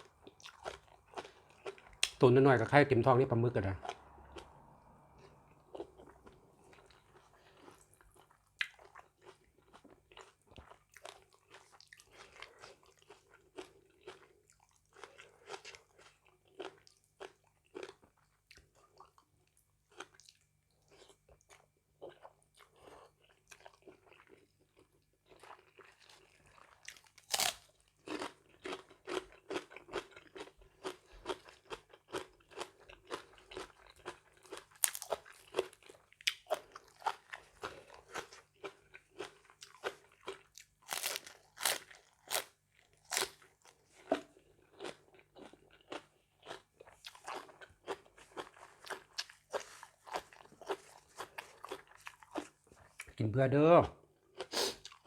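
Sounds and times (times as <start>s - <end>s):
person chewing and crunching food: 0.0s - 2.2s, 3.5s - 53.2s, 53.8s - 55.0s.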